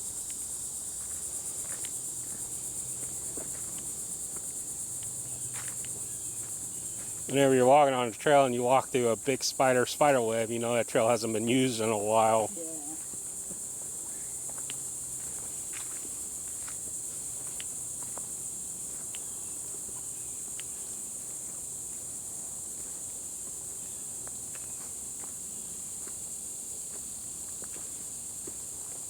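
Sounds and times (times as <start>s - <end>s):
insect chorus: 0.0s - 29.0s.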